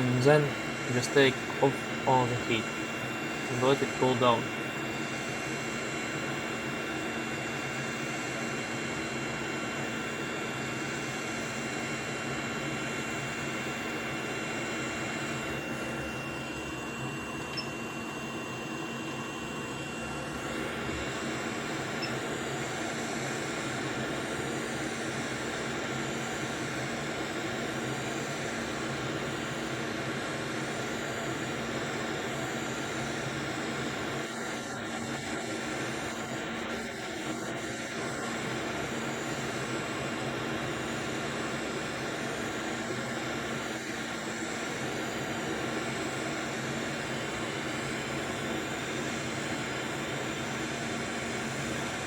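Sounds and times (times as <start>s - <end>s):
hot air blower running: 0.0s - 52.0s.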